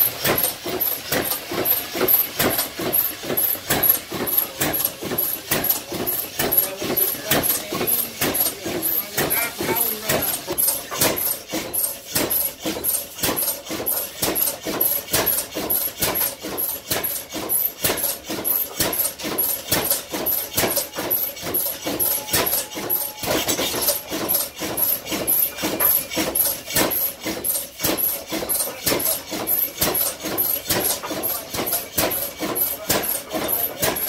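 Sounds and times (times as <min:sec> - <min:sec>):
flywheel engine running: 0:00.0 - 0:34.0.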